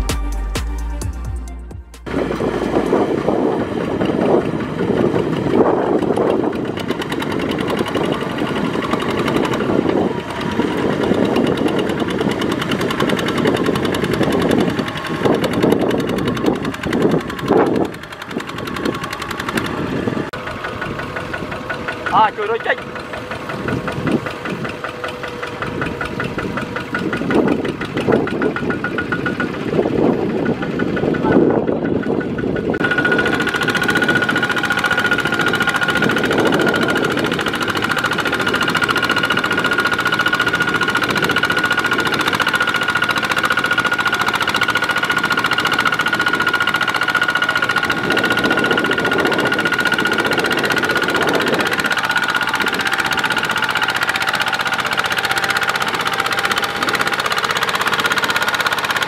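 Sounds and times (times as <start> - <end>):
diesel tractor engine: 0.0 - 59.0.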